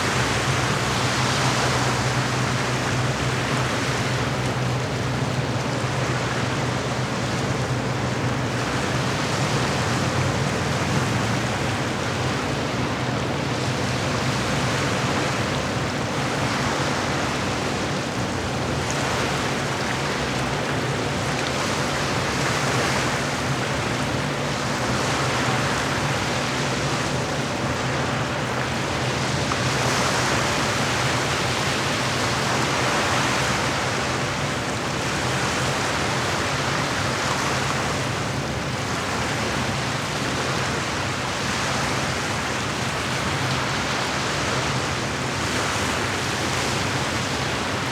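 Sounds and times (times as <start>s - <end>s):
waves washing against shore: 0.0s - 47.9s.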